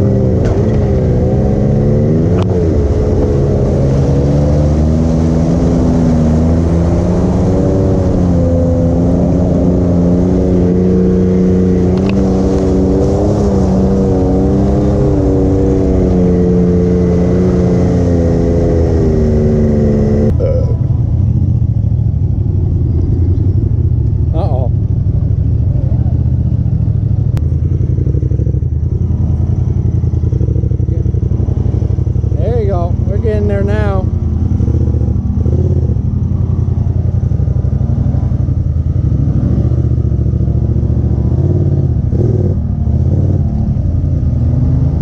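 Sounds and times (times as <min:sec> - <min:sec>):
off-road vehicle engine running: 0:00.0 - 0:45.0.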